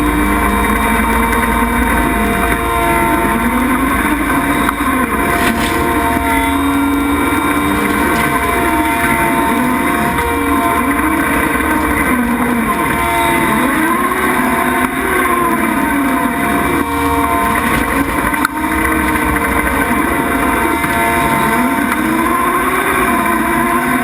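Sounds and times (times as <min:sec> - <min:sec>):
skid steer engine drone: 0:00.0 - 0:24.0.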